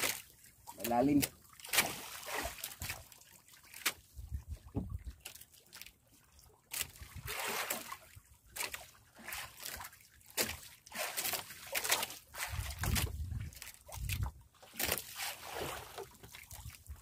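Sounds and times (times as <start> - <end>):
water splashing against boat: 0.0 - 17.0.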